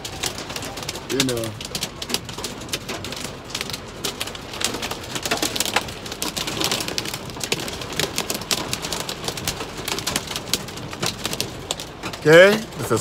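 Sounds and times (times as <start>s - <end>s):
hail and rain on car roof: 0.0s - 13.0s.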